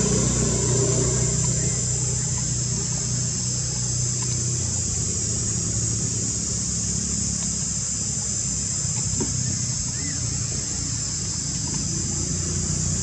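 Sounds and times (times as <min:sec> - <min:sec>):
constant low hum: 0:00.0 - 0:13.0.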